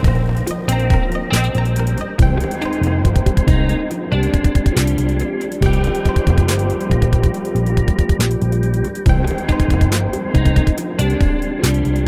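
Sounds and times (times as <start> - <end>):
bass line: 0.0 - 12.0
guitar: 0.0 - 12.0
steady drum beat: 0.0 - 12.0.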